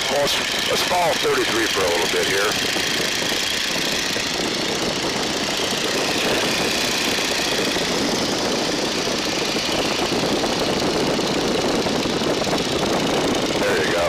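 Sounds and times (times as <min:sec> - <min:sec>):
biplane engine and propeller: 0:00.0 - 0:14.0
wind rushing over airframe: 0:00.0 - 0:14.0.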